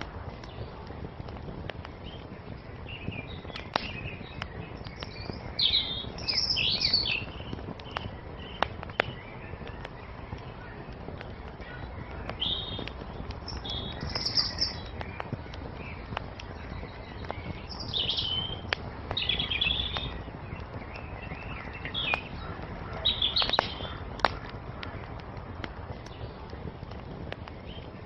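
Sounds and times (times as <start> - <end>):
rumble of flame: 0.0 - 28.0
wood fire crackling: 0.0 - 28.0
songbirds chirping and singing: 0.2 - 28.0.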